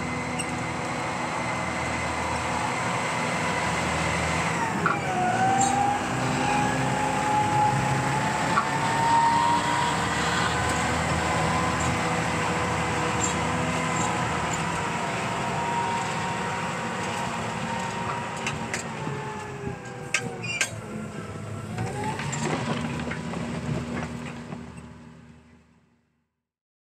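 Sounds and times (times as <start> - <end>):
tractor diesel engine working: 0.0 - 26.0.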